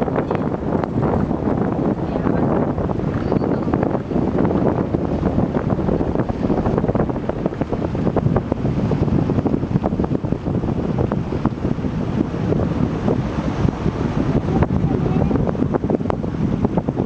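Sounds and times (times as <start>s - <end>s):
boat engine running: 0.0s - 17.0s
rushing water: 0.0s - 17.0s
wind buffeting microphone: 0.0s - 17.0s.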